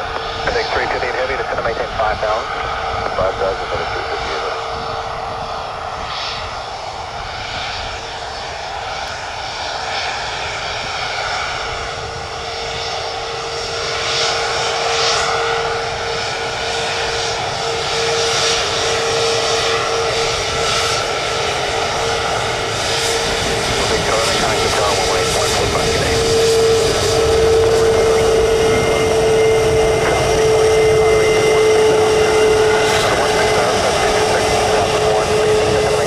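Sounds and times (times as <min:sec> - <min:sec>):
jet engines whining: 0:00.0 - 0:36.0.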